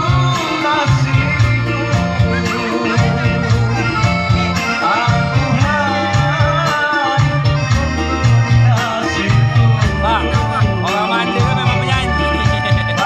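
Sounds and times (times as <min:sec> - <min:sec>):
instrumental backing with bass line: 0:00.0 - 0:13.0
person singing: 0:00.0 - 0:13.0.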